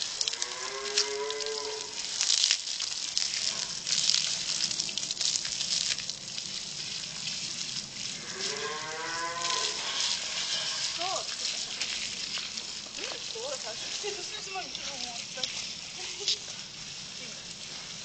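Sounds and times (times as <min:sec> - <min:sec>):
hose water spraying and splashing: 0:00.0 - 0:18.0.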